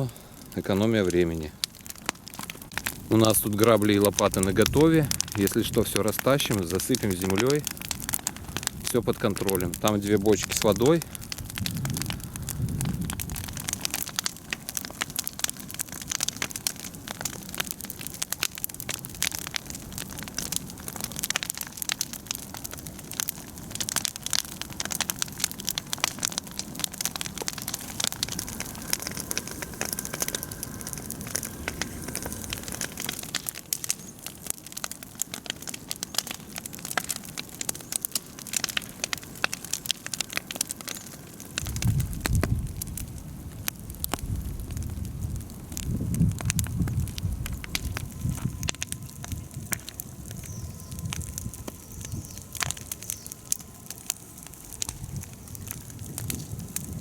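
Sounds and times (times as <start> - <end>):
bonfire crackling and popping: 0.0 - 57.0
low steady fire rumble: 0.0 - 57.0.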